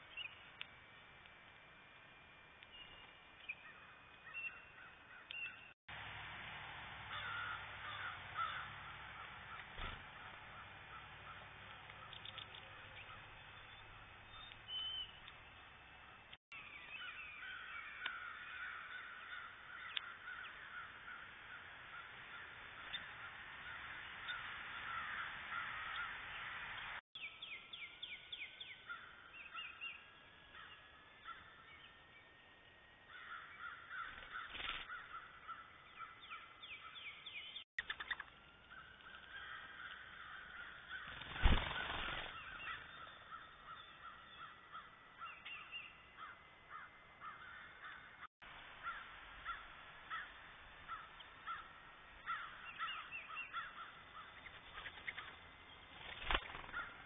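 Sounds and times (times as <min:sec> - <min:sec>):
wild birds calling: 0:02.6 - 0:05.8, 0:07.0 - 0:26.5, 0:27.3 - 0:32.3, 0:33.0 - 0:57.0.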